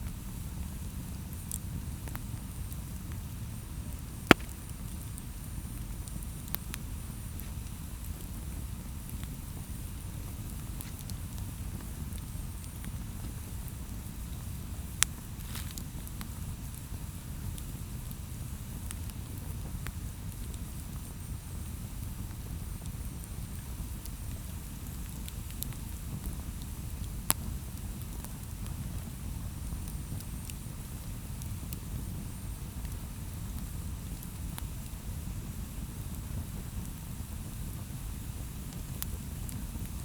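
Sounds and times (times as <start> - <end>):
campfire flames rumbling: 0.0 - 40.0
fire crackles and pops: 0.0 - 40.0.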